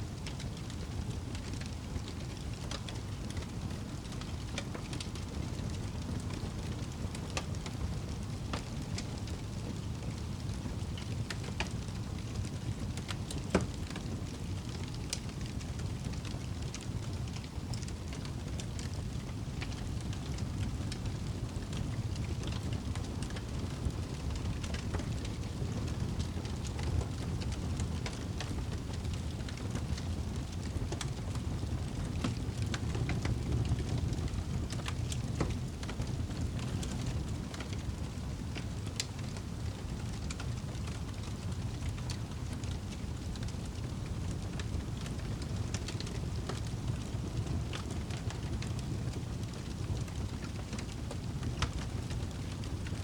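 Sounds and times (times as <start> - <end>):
campfire crackling and popping: 0.2 - 53.0.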